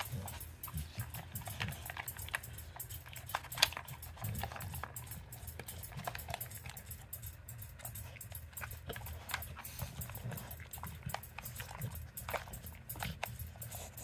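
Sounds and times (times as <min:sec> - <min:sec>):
plastic toy clicking and clacking: 0:00.0 - 0:13.7.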